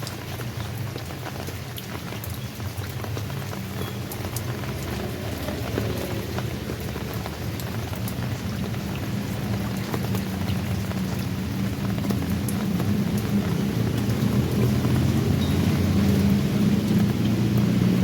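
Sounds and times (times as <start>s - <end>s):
raindrops ticking on surface: 0.0s - 18.0s.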